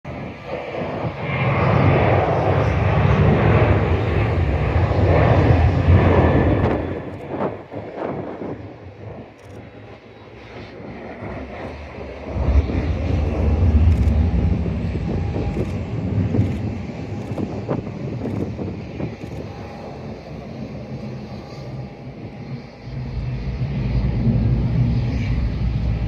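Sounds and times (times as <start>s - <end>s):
jet engines roaring: 0.1s - 26.0s.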